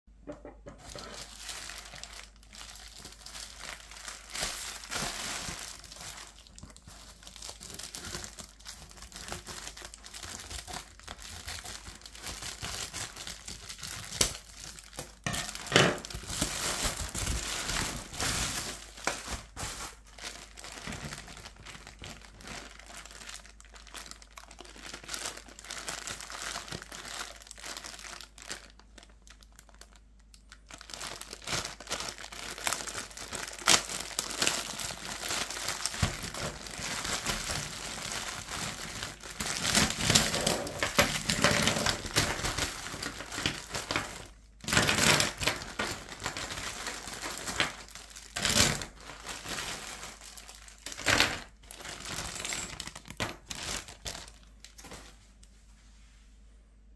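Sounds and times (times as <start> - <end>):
plastic bag rustling: 0.2 - 56.2
plastic mailer crinkling: 0.3 - 55.1.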